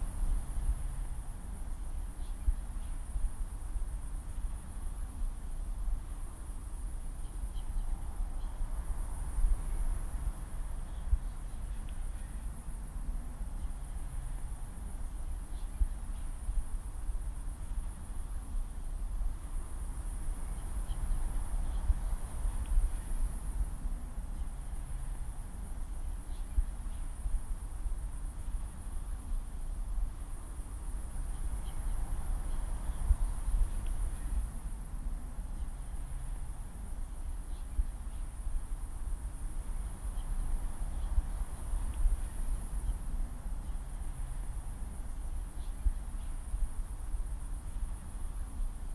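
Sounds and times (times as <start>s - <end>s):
crickets chirring: 0.0s - 48.9s.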